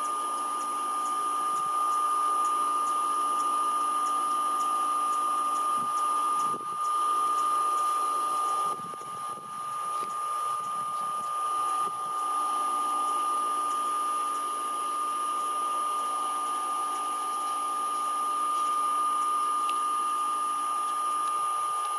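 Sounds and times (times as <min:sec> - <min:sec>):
machine whine: 0:00.0 - 0:21.9.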